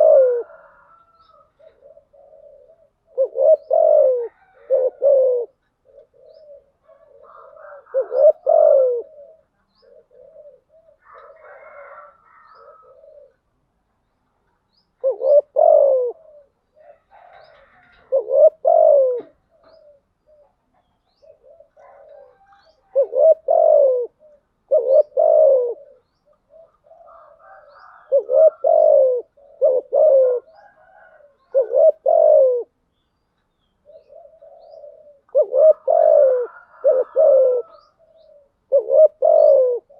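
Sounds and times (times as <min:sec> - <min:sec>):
dove cooing: 0:00.0 - 0:13.7, 0:14.7 - 0:32.9, 0:33.8 - 0:39.9.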